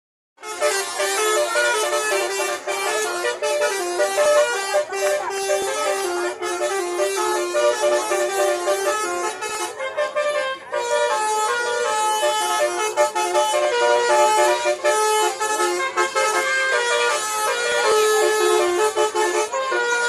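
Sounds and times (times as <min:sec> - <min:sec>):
multi-tone bus horn melody: 0:00.4 - 0:20.0.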